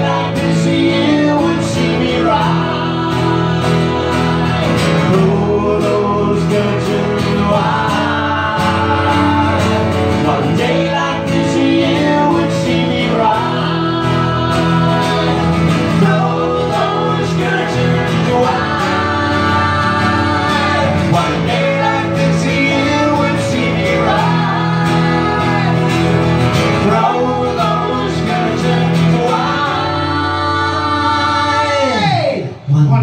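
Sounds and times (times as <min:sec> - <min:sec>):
acoustic guitars strummed: 0:00.0 - 0:32.4
men singing through a pa: 0:00.0 - 0:32.4.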